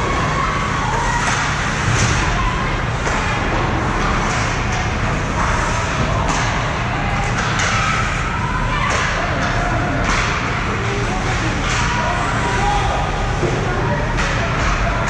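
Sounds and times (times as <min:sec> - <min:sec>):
rink rumble and scraping: 0:00.0 - 0:15.0.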